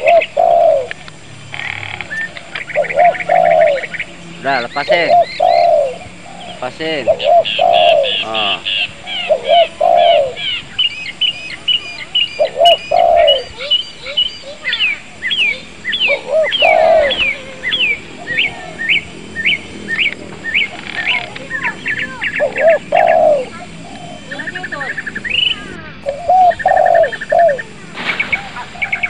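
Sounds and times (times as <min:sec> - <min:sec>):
bird chirping: 0:01.6 - 0:29.0.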